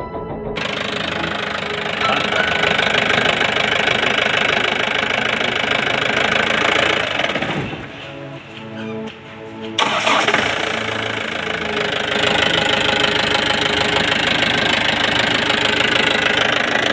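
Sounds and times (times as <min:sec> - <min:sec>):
diesel engine clattering: 0:00.6 - 0:16.9.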